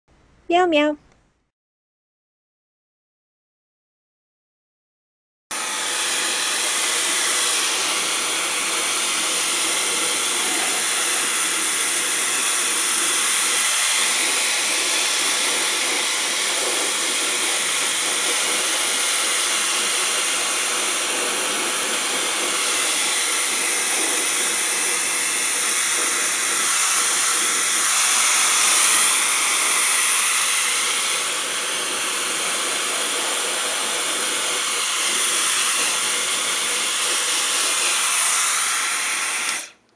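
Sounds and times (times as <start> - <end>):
blow dryer running: 5.5 - 39.9.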